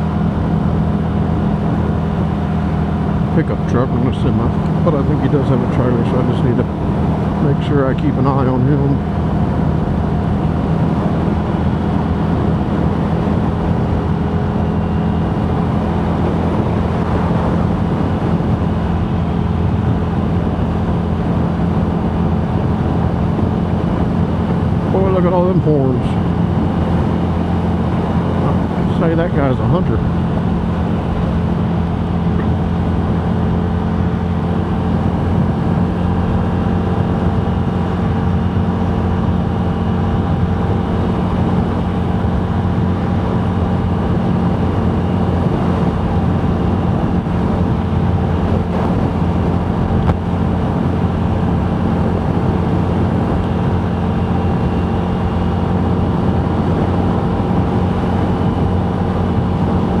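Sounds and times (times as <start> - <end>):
vehicle engine and road drone: 0.0 - 60.0.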